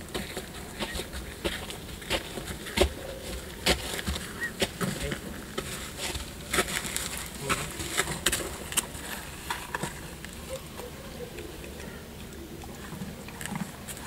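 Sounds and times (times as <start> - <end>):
hooves and footsteps on gravel: 0.0 - 14.0.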